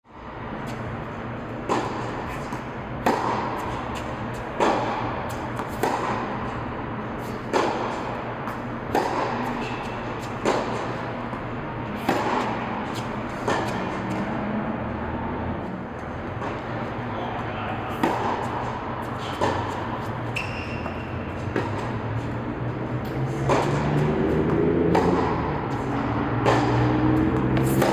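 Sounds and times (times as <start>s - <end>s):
tennis rackets hitting ball: 0.2s - 15.0s, 15.8s - 27.9s.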